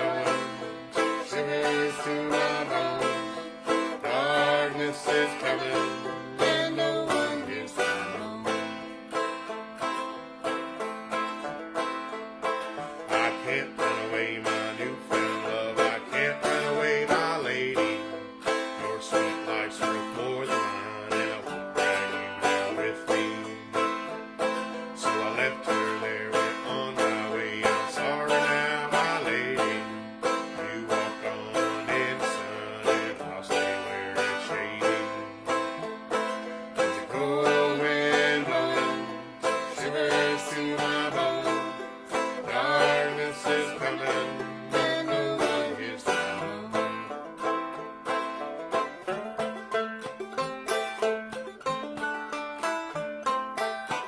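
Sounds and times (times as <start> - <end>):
guitar chords: 0.0 - 53.7
banjo picking fast runs: 0.0 - 54.0.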